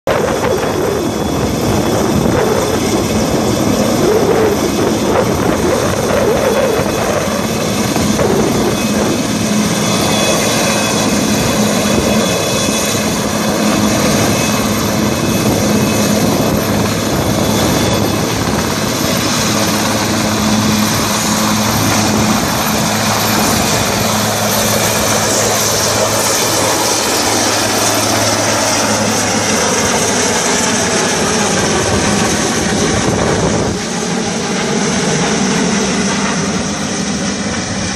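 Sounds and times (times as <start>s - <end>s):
helicopter rotor and engines: 0.0s - 37.9s.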